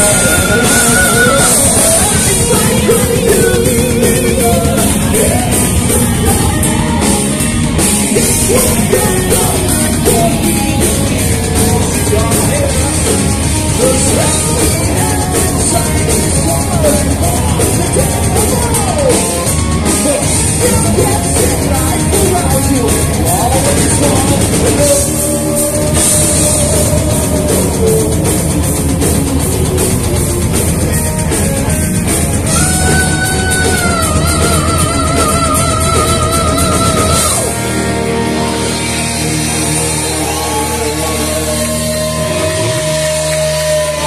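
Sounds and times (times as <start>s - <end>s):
man singing: 0.0s - 28.8s, 32.4s - 37.8s, 39.4s - 44.0s
heavy metal band playing: 0.0s - 44.0s.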